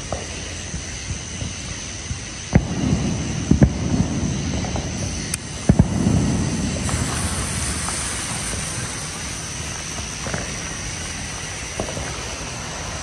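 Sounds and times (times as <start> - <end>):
rushing hiss of rockets: 0.0 - 13.0
firework pops and bangs: 1.1 - 13.0.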